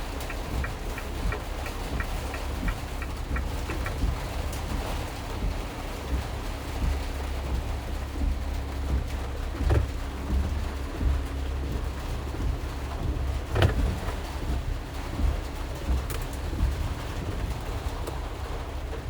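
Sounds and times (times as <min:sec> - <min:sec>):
rain noise: 0:00.0 - 0:19.0
van engine and road rumble: 0:00.0 - 0:19.0.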